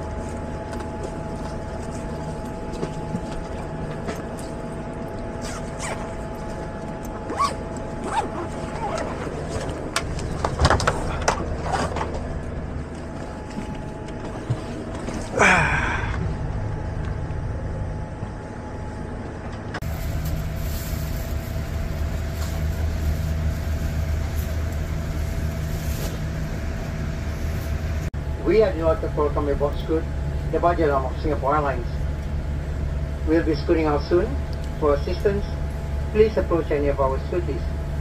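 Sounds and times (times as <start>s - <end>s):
airliner cabin air system hum: 0.0s - 38.0s.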